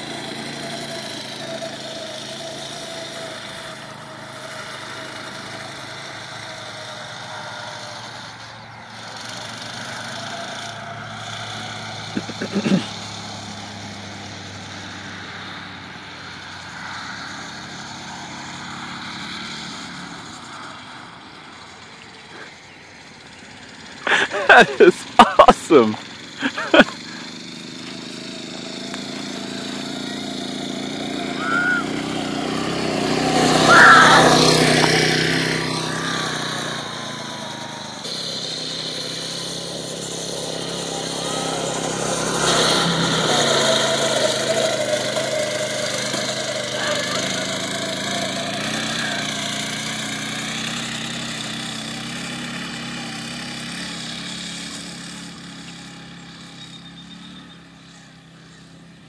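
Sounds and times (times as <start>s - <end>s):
dune buggy engine revving: 0.0s - 59.0s.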